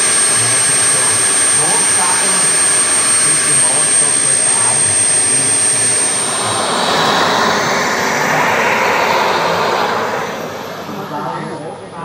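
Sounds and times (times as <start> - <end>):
jet turbine engine whine and rush: 0.0 - 12.0.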